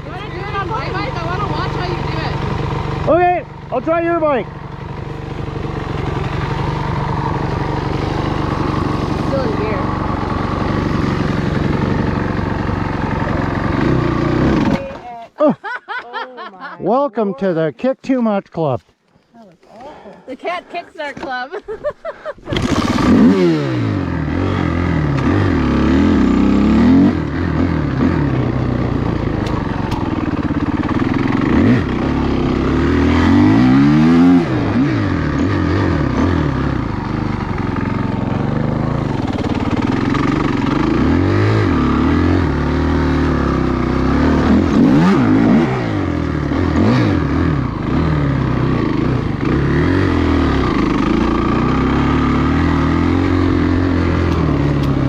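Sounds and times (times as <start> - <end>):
dirt bike engine revving: 0.0 - 15.0, 22.4 - 55.0.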